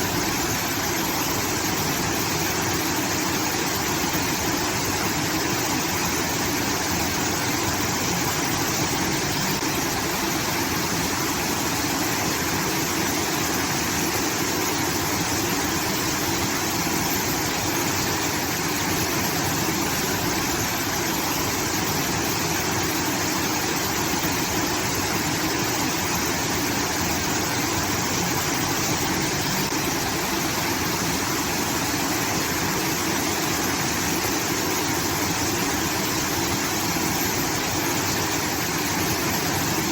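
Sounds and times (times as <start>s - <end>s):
water pouring through an outlet: 0.0s - 39.9s.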